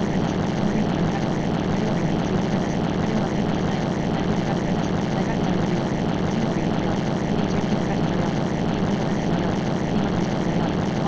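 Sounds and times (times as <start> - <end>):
steady droning hum: 0.0 - 11.0.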